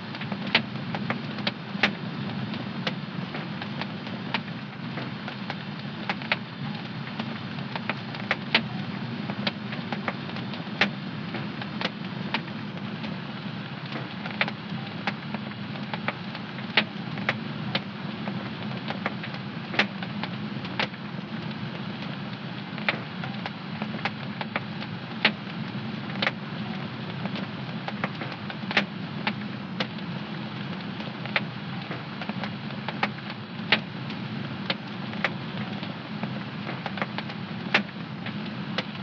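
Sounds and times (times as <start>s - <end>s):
fireplace fire crackling: 0.0s - 39.0s.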